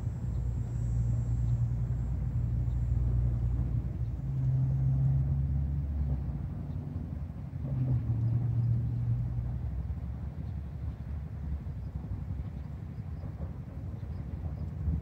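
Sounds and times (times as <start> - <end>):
distant motor traffic rumble: 0.0 - 15.0
engine hum: 0.0 - 15.0.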